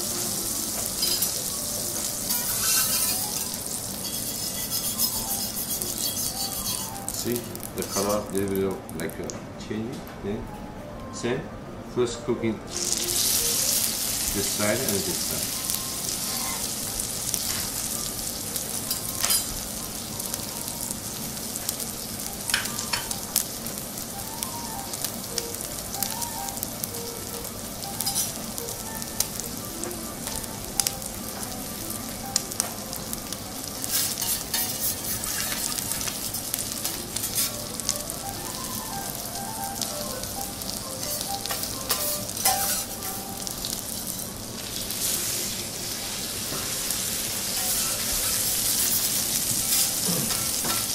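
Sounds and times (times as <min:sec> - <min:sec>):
steak sizzling on a griddle: 0:00.0 - 0:09.1, 0:12.7 - 0:50.9.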